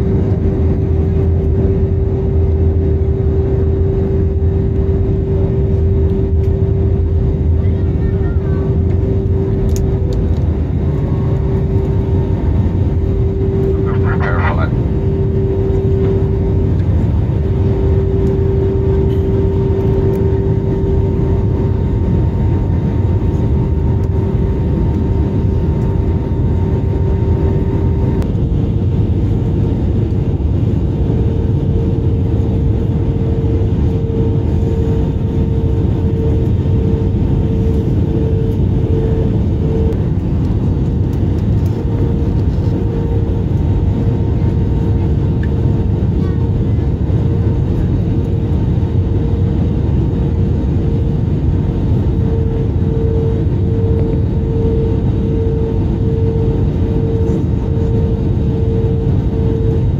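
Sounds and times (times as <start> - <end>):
airflow rumble in plane cabin: 0.0 - 59.9
jet engine hum: 0.0 - 59.9.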